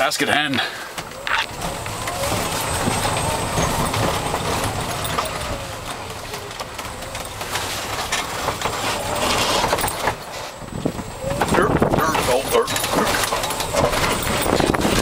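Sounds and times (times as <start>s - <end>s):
golf cart motor whining: 0.8s - 15.0s.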